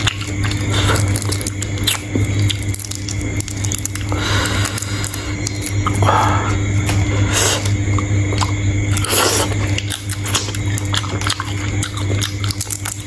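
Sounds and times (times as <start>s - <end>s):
chewing and biting shrimp: 0.0s - 13.0s
steady low hum: 0.0s - 13.0s.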